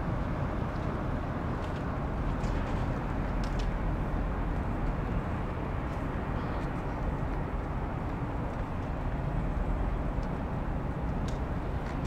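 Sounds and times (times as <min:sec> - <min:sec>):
distant city traffic rumble: 0:00.0 - 0:12.0.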